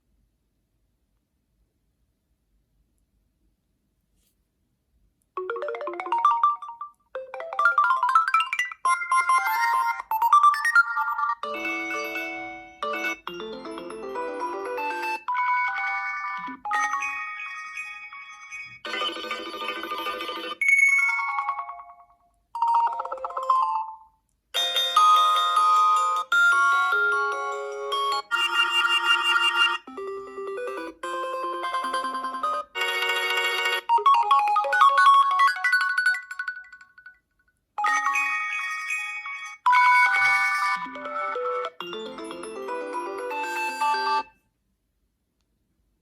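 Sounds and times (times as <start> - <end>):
phone ringtones: 5.4 - 37.1, 37.8 - 44.4.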